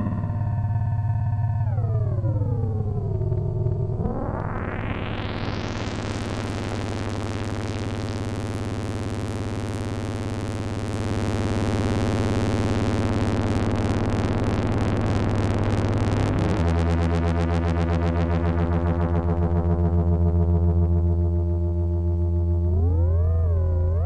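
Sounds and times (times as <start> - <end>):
buzzy synthesizer drone: 0.0 - 24.0.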